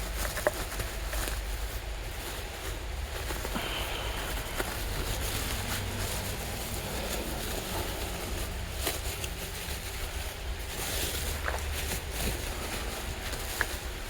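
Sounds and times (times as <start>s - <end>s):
faint clicks and rustles: 0.0s - 14.0s
steady low rumble: 0.0s - 14.0s.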